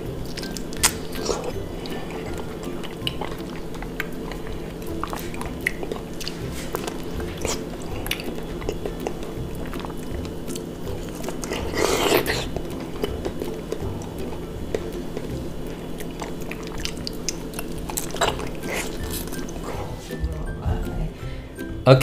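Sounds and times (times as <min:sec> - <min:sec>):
wet biting and chewing: 0:00.0 - 0:20.0.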